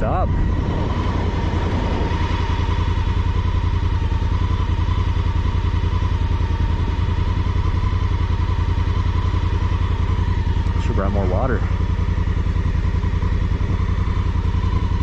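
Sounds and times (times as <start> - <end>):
motorcycle engine running: 0.0 - 15.0
thin steady whine: 0.0 - 15.0.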